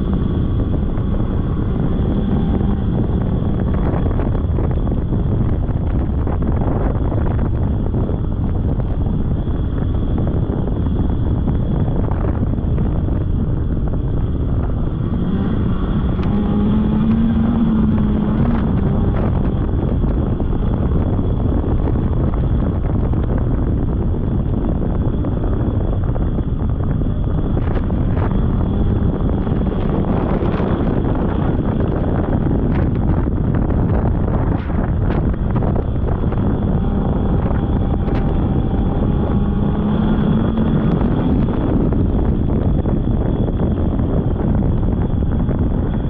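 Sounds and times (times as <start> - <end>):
snowmobile engine: 0.0 - 46.0
wind buffeting microphone: 0.0 - 46.0.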